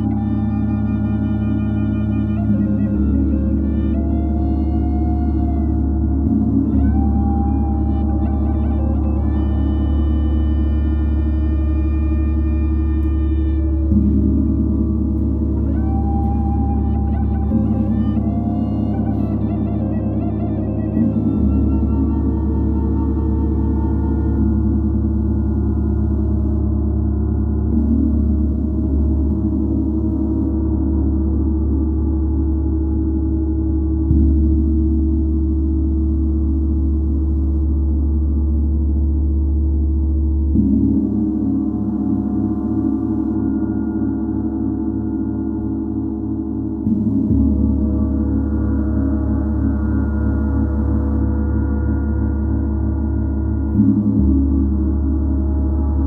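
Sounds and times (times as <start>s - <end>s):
gong with layered low tones: 0.0s - 56.0s.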